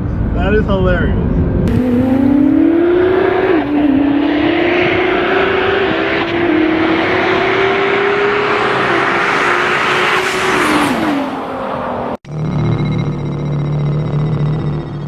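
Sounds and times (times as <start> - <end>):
wind and road noise: 0.0 - 12.2
race car engine at full throttle: 0.0 - 15.0.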